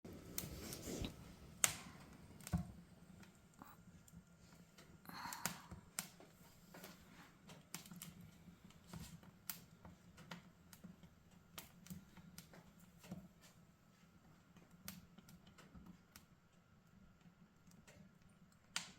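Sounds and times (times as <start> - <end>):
wood fire crackling: 0.1 - 18.9.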